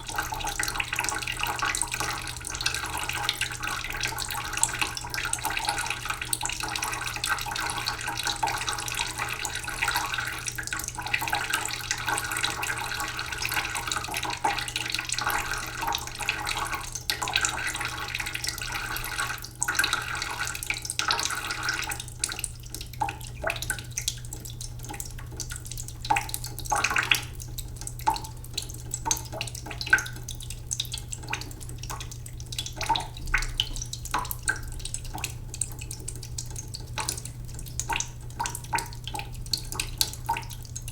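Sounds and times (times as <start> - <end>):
tap water splashing into pot: 0.0 - 40.9
water drips: 0.0 - 40.9.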